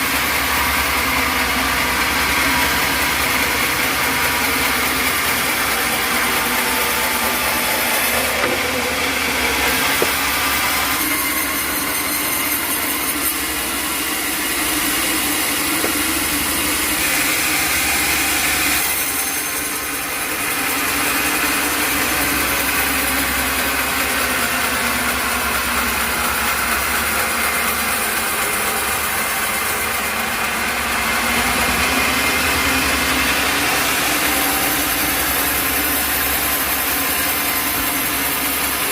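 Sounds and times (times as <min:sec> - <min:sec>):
engine running under load: 0:00.0 - 0:38.9
saw blade cutting log: 0:00.0 - 0:38.9.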